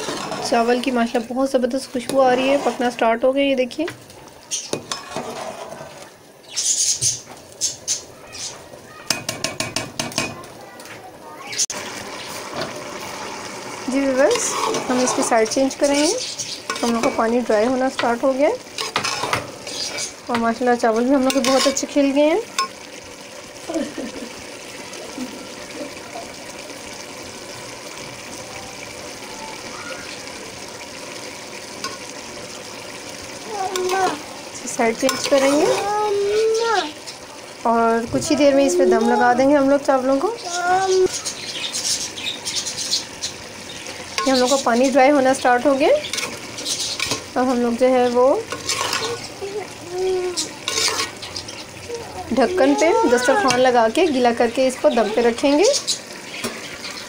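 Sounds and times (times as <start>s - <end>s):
pot boiling and bubbling: 0.0s - 57.0s.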